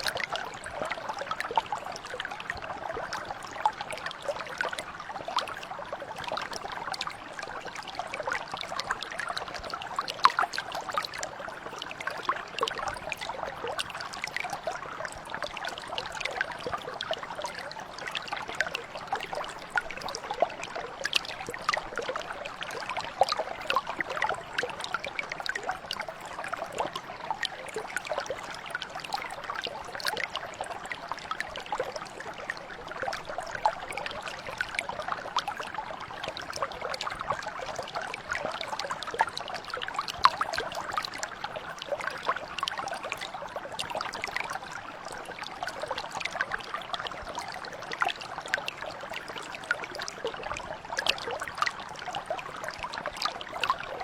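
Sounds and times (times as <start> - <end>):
brook babbling over stones: 0.0 - 54.0.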